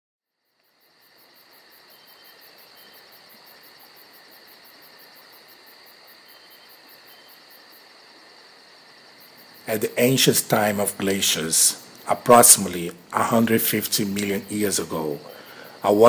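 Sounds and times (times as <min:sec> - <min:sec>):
crickets chirping: 0:00.3 - 0:16.0.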